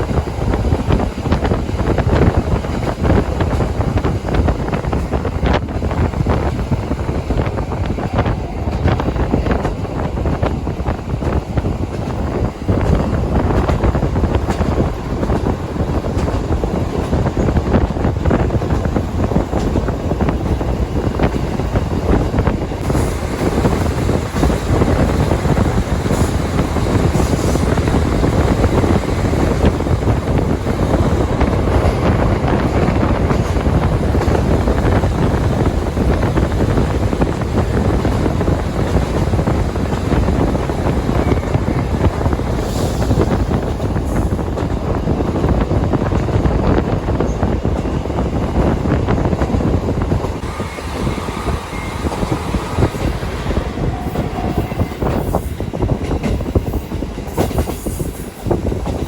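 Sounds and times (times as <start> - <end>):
train wheels on rails: 0.0 - 59.0
wind noise: 0.0 - 59.0.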